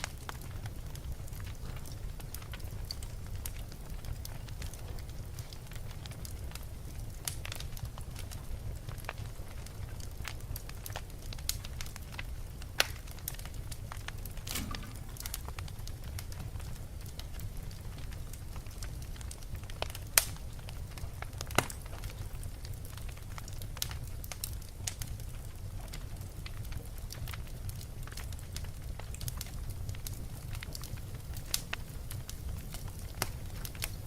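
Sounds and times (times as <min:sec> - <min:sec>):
fire hiss: 0:00.0 - 0:34.0
wood fire crackling and popping: 0:00.0 - 0:34.0.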